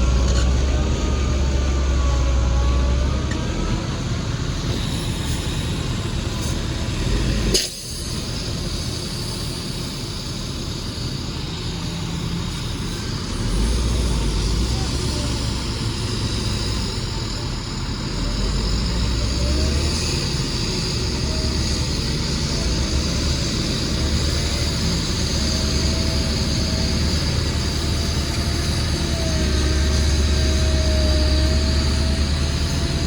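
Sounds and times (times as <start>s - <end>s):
heavy diesel machinery rumbling: 0.0s - 33.0s.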